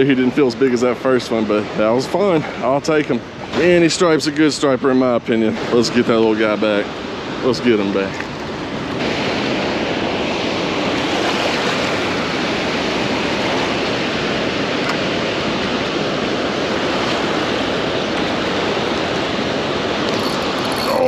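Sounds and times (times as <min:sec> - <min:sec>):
white water rushing: 0:00.0 - 0:21.0.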